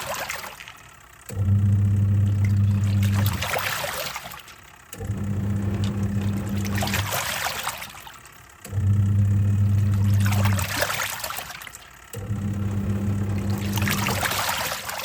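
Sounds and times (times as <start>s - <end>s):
washing machine motor humming: 0.0s - 15.0s
water sloshing in tub: 0.0s - 15.0s.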